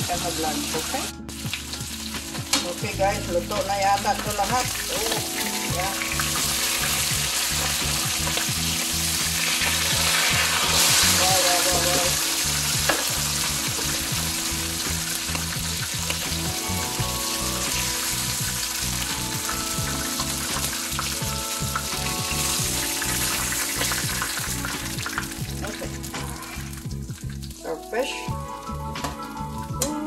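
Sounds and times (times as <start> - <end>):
fish sizzling in hot oil: 0.0 - 28.7.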